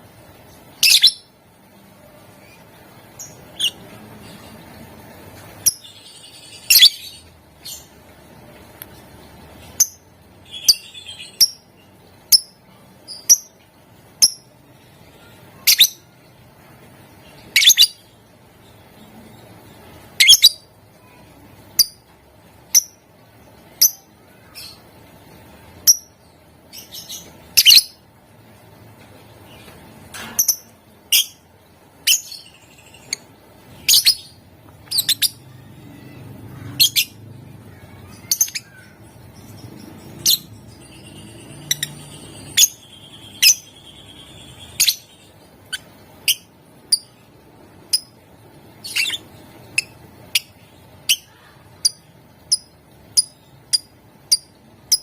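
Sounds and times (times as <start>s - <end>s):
lovebird chirping: 0.6s - 1.4s, 2.1s - 7.9s, 9.7s - 13.6s, 14.2s - 16.2s, 17.3s - 22.1s, 22.7s - 28.0s, 29.5s - 55.0s.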